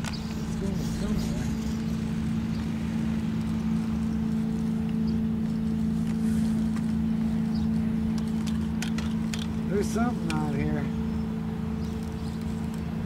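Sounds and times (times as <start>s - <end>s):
engine hum with low rumble: 0.0s - 13.0s.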